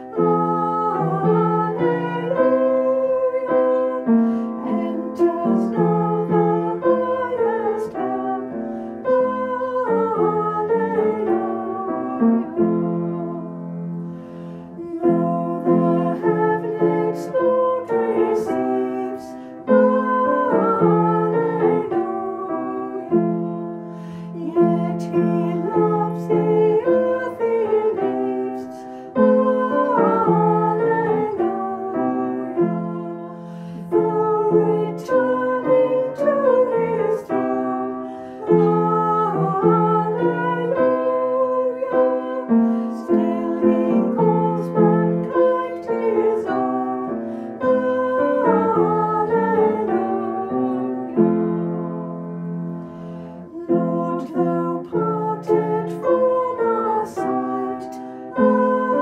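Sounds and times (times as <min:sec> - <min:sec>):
women singing a hymn: 0:00.0 - 0:59.0.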